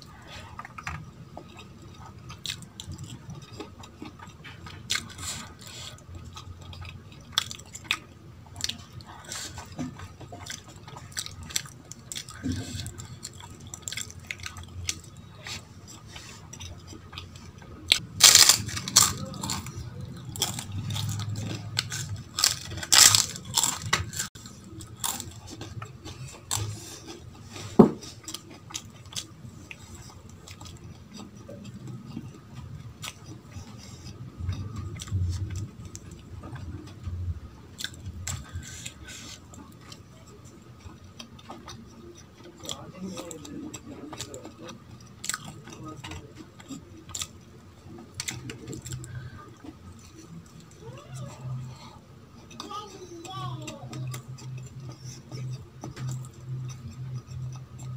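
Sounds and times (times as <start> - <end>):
soft chewing: 0.0 - 57.9.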